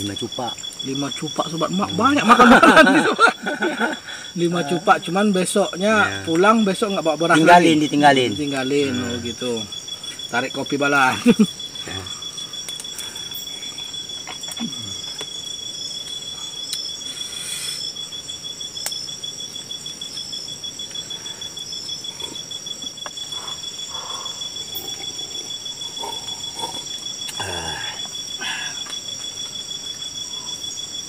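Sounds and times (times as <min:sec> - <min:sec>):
crickets trilling: 0:00.0 - 0:31.0
high-pitched insect buzzing: 0:00.0 - 0:31.0.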